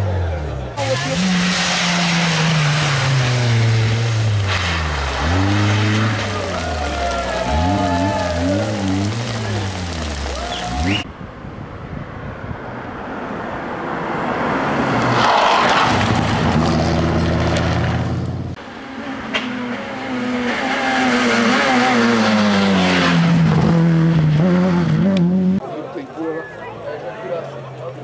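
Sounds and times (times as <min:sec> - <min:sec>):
rally car engine racing: 0:00.0 - 0:11.1, 0:13.4 - 0:25.7.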